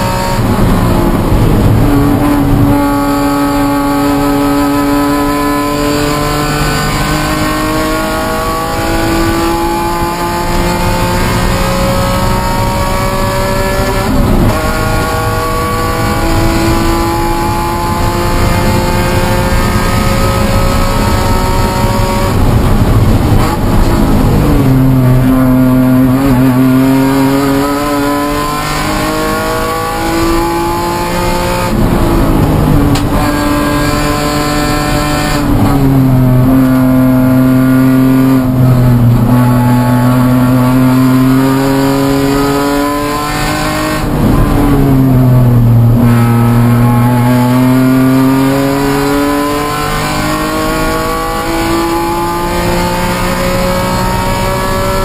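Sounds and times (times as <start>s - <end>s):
race car engine revving under load: 0.0s - 55.0s.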